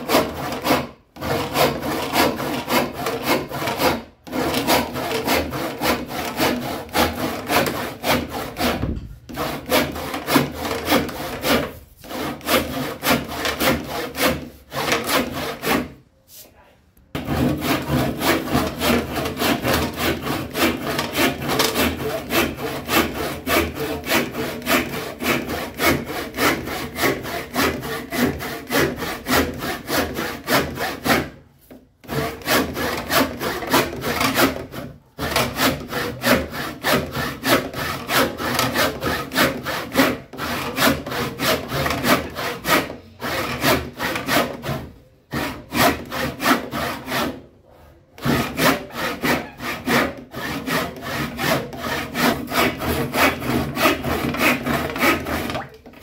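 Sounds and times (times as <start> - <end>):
handsaw cutting wood: 0.0 - 16.0, 17.2 - 47.5, 48.1 - 55.8.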